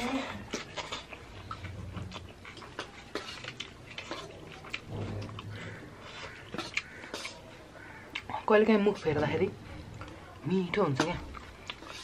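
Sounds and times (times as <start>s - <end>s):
chewing and mouth smacks: 0.0s - 8.5s, 9.7s - 12.0s.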